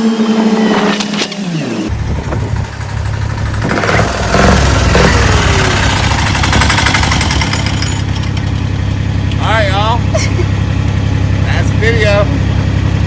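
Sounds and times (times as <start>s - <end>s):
diesel motorcycle engine pulsing: 0.0s - 13.0s.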